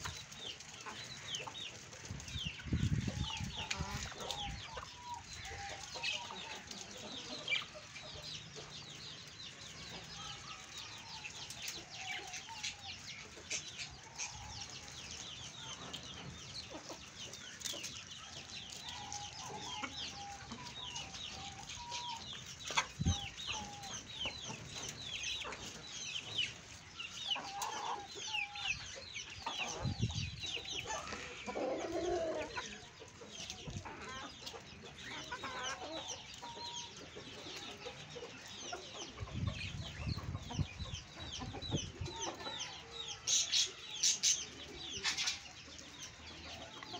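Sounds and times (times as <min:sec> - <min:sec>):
hens clucking softly: 0:00.0 - 0:10.1, 0:11.2 - 0:46.9.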